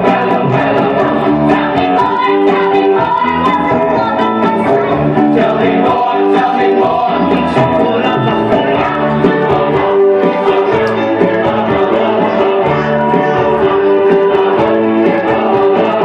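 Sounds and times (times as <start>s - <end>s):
rock and roll song: 0.0s - 16.0s.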